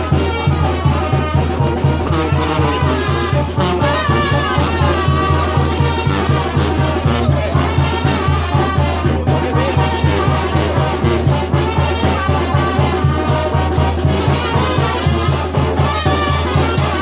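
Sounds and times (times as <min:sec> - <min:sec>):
brass band dance music: 0:00.0 - 0:17.0.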